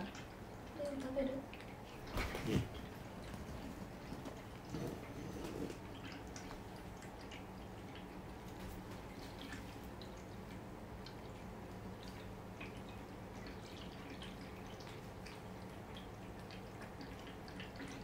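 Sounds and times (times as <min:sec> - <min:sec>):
cats chewing and licking: 0:00.0 - 0:18.0
low steady hum: 0:00.0 - 0:18.0.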